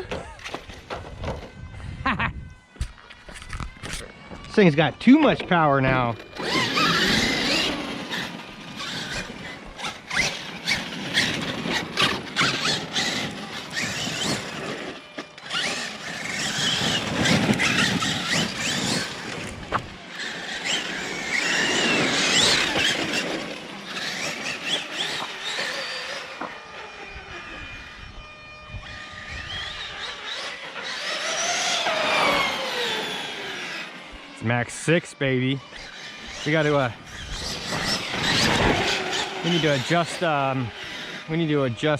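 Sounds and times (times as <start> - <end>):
electric motor whine: 0.0 - 41.9.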